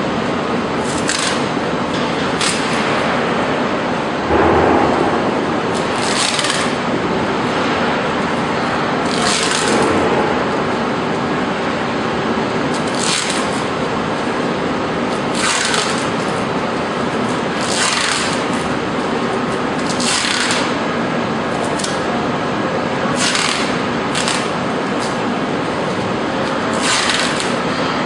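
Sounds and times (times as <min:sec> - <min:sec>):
steady machinery noise: 0:00.0 - 0:28.0.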